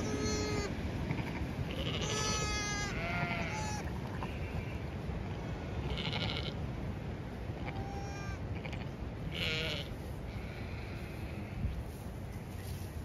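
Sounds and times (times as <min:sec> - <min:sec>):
lambs bleating: 0:00.0 - 0:06.6, 0:07.6 - 0:11.6
low rush of wind: 0:00.0 - 0:13.0.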